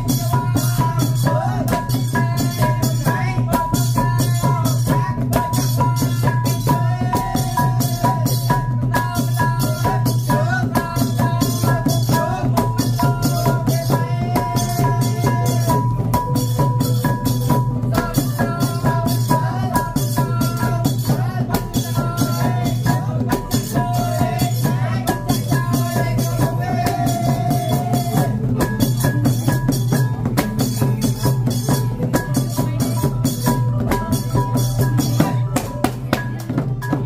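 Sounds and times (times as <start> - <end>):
drums and rattling percussion: 0.0 - 37.0
steady high tone: 0.0 - 37.0.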